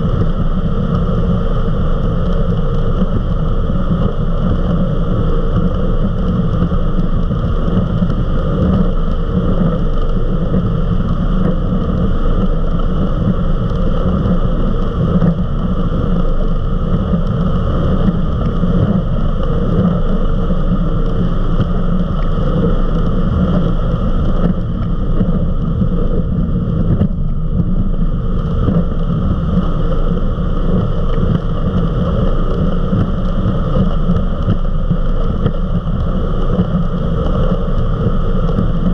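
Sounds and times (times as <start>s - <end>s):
powerboat engine drone: 0.0s - 38.9s.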